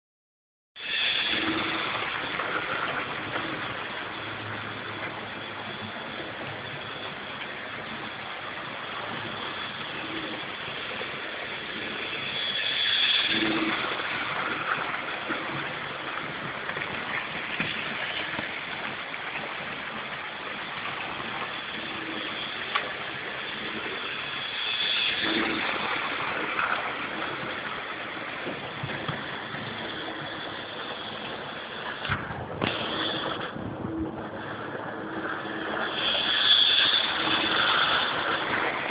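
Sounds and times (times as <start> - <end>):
model train rattling rumble: 0.8 - 38.9.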